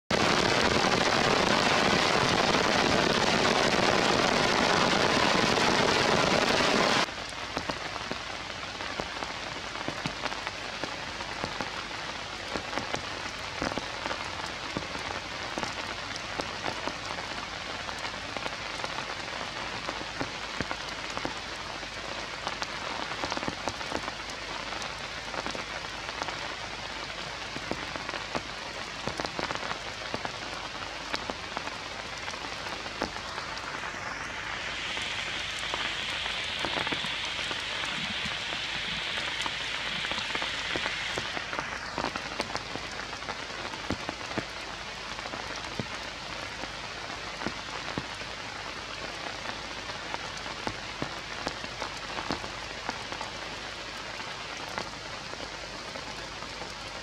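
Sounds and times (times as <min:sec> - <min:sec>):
heavy rain on foliage: 0:00.0 - 0:57.0
raindrops striking leaves: 0:00.1 - 0:57.0.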